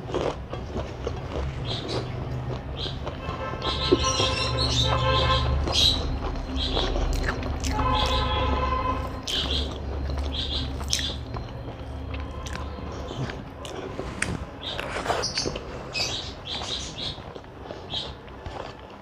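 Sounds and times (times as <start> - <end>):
chewing with mouth smacks: 0.0 - 3.2, 5.6 - 15.7, 16.5 - 19.0.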